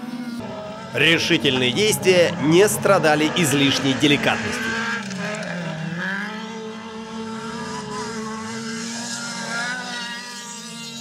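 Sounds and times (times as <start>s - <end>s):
racing buggy engines revving: 0.0s - 11.0s.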